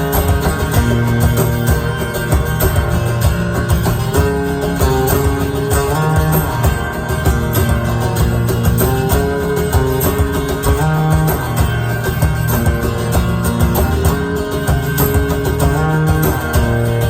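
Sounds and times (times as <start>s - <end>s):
bass: 0.0s - 17.0s
guitar: 0.0s - 17.0s
steady drum beat: 0.0s - 17.0s.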